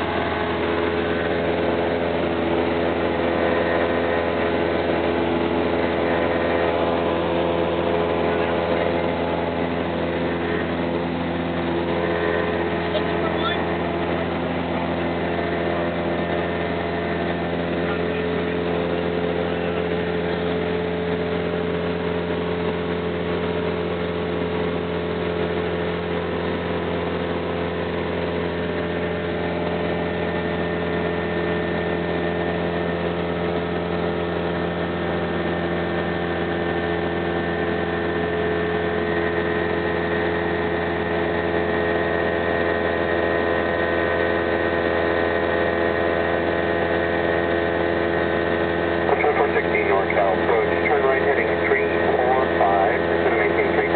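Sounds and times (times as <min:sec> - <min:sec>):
aircraft engine and propeller drone: 0:00.0 - 0:53.9.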